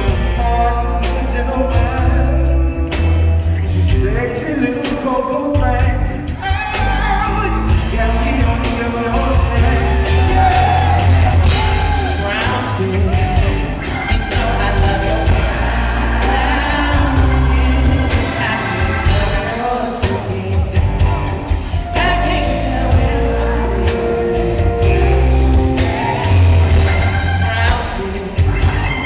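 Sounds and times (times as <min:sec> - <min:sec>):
heavy bass: 0:00.0 - 0:29.0
live band playing: 0:00.0 - 0:29.0
woman singing: 0:00.3 - 0:03.0, 0:03.8 - 0:29.0.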